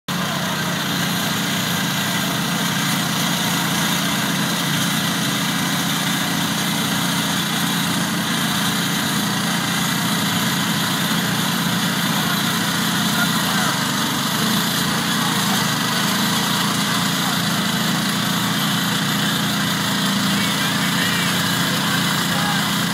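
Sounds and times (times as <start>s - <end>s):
garden tractor engine running: 0.1s - 22.9s.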